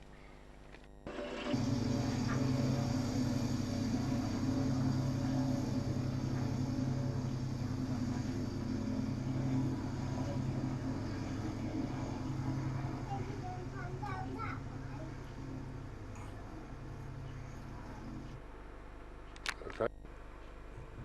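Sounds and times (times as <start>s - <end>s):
engine drone: 1.0s - 19.0s.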